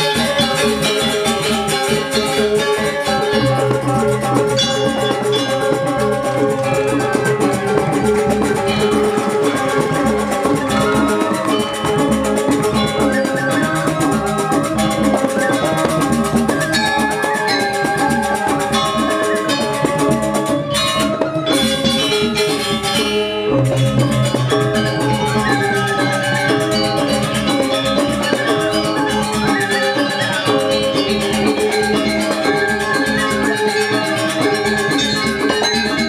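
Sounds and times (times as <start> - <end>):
drumming: 0.0 - 36.0
metallophones ringing: 0.0 - 36.0.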